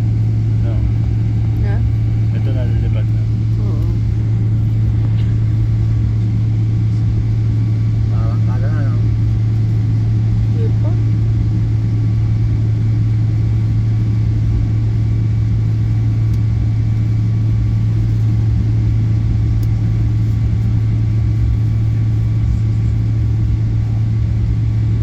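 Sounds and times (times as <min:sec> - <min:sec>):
jet engine drone in cabin: 0:00.0 - 0:25.0.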